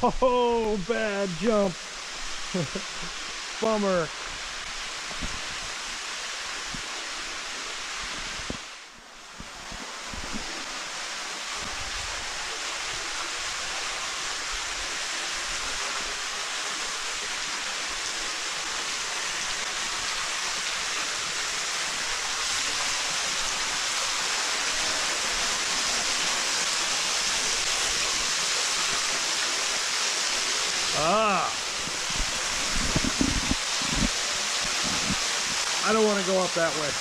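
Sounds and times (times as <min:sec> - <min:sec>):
waterfall splashing into pool: 0:00.0 - 0:37.0.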